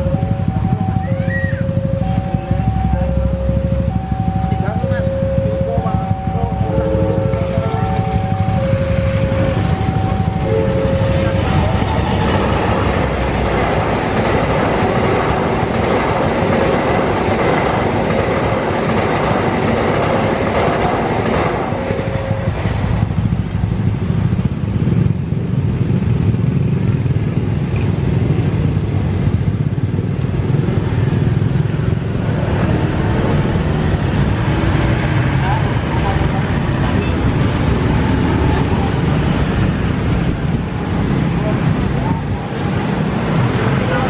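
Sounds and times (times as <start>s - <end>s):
train carriages rolling past: 0.0s - 26.2s, 26.8s - 44.0s
motorcycle engines pulling away: 0.0s - 44.0s.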